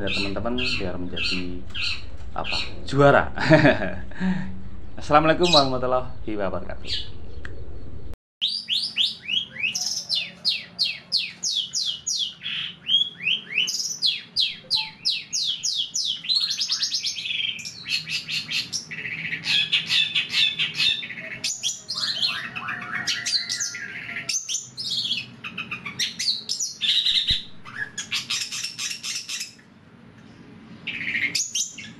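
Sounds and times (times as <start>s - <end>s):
bird singing chattering phrases: 0.0s - 3.0s, 4.8s - 6.0s, 8.4s - 29.6s, 30.8s - 31.9s.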